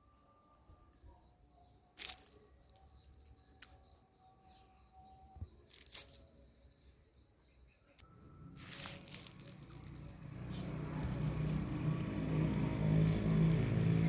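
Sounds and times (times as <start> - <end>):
faint background chirping: 0.0 - 14.0.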